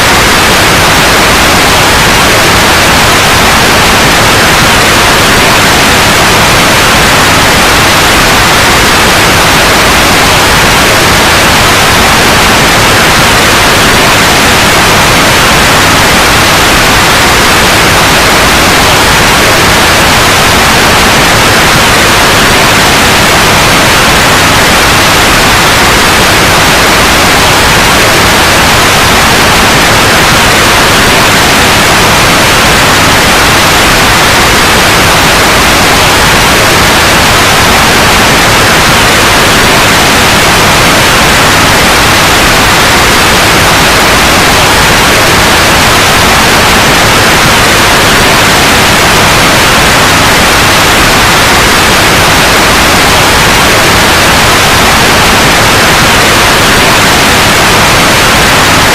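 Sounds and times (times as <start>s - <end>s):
white noise hiss: 0.0s - 58.9s.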